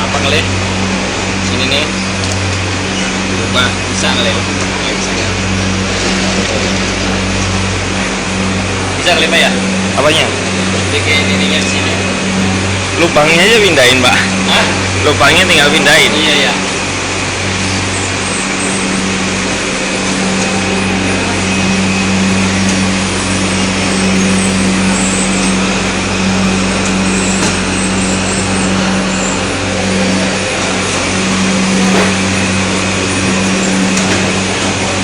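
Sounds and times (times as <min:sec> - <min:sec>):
machine low hum: 0:00.0 - 0:35.0.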